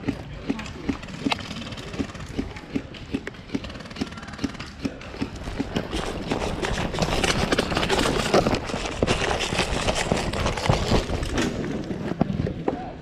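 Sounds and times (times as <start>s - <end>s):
running footsteps with rustling: 0.0s - 12.3s.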